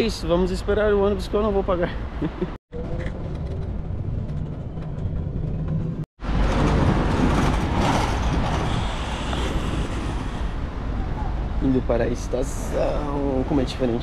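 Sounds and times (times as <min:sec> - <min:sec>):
street traffic noise: 0:00.0 - 0:14.0
bus engine rumble: 0:02.0 - 0:14.0.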